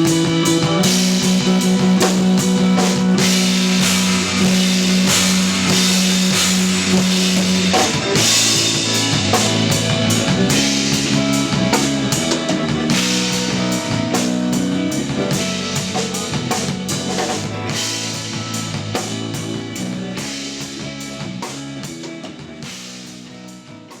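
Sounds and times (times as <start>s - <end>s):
drums and cymbals: 0.0s - 24.0s
held bass notes: 0.0s - 24.0s
post-rock band playing: 0.0s - 24.0s.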